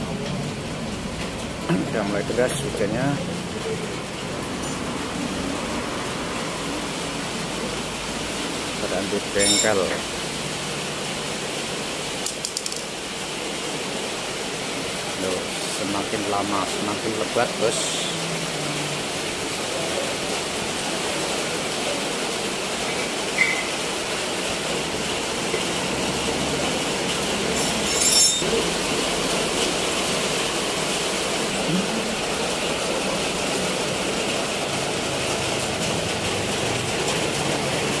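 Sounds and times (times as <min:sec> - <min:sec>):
heavy rain on awning: 0:00.0 - 0:38.0.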